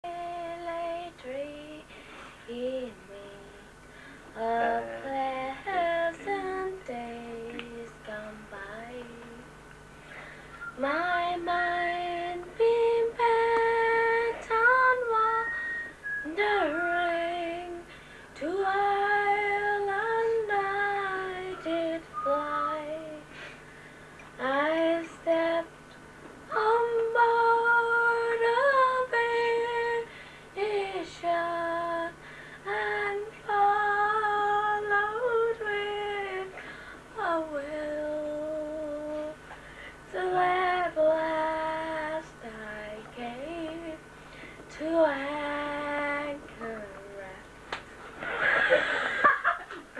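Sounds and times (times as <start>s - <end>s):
girl singing unaccompanied: 0.0s - 9.5s, 10.7s - 23.4s, 24.4s - 25.8s, 26.5s - 39.4s, 40.1s - 44.1s, 44.7s - 47.5s.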